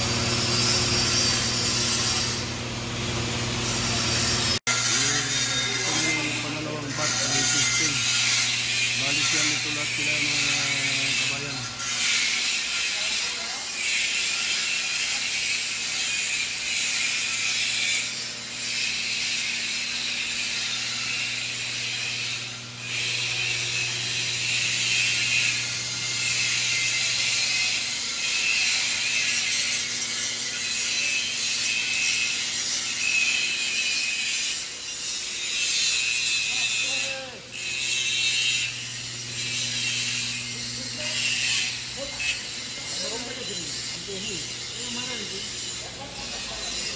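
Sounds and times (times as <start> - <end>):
welding arc crackling: 0.0 - 46.9.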